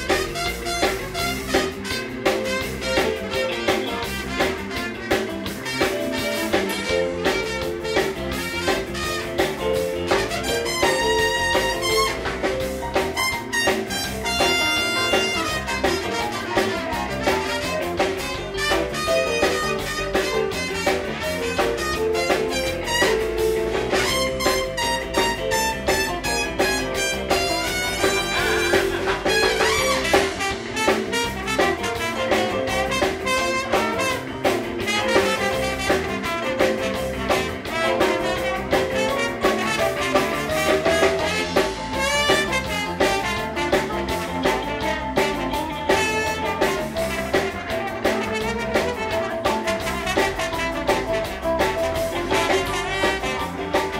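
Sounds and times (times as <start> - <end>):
drum kit: 0.0 - 53.9
guitar: 0.0 - 53.9
horn melody: 0.0 - 53.9.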